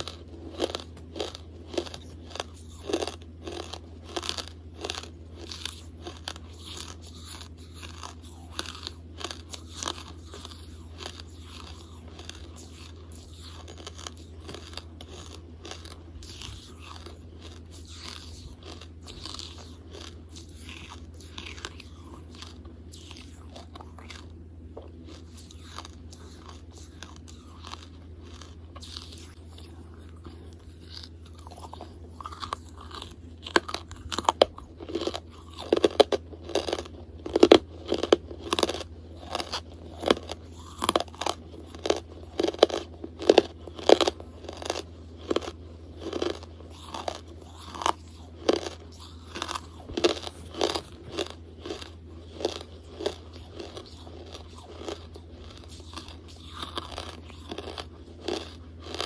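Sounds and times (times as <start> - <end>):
chewing hard charcoal: 0.0 - 59.0.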